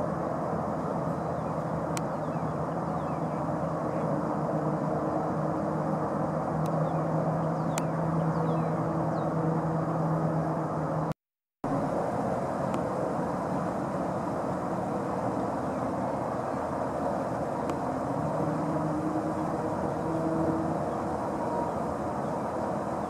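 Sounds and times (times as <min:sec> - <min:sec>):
distant engine drone: 0:00.0 - 0:23.0.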